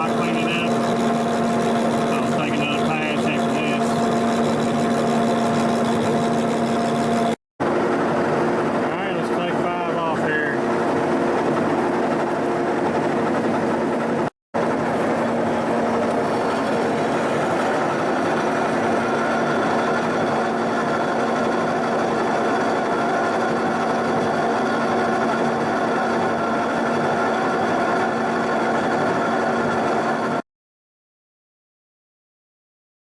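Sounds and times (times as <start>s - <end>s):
milling machine humming and whining: 0.0s - 30.4s.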